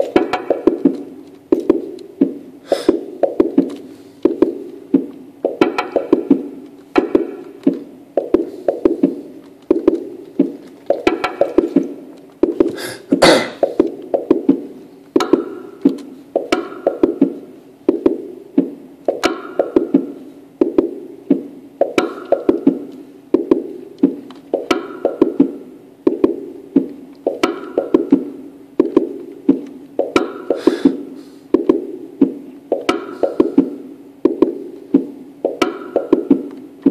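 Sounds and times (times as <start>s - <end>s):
clicky percussive electronic notes: 0.0s - 30.9s, 31.6s - 36.9s.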